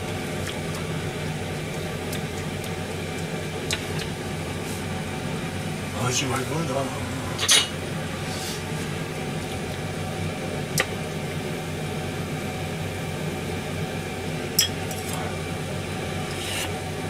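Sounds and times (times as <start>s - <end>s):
broth simmering: 0.0s - 17.0s
kitchen hum: 0.0s - 17.0s.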